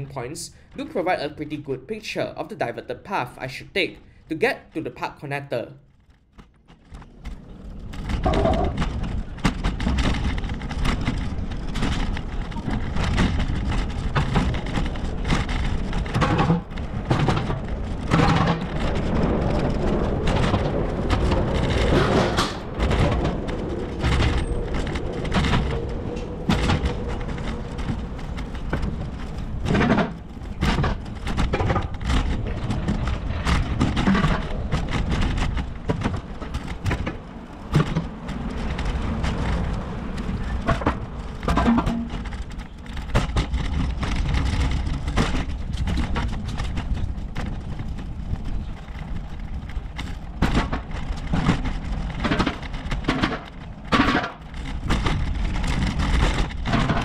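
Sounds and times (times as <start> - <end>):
bicycle rattling and knocking: 0.0 - 57.0.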